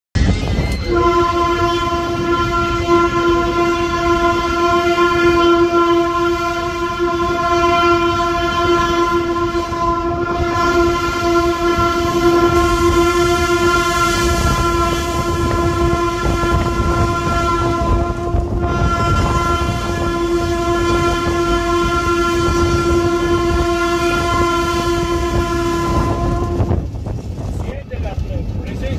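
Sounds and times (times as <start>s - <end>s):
locomotive engine rumble: 0.1s - 28.9s
train rolling on track: 0.1s - 28.9s
locomotive horn steady note: 0.8s - 26.9s.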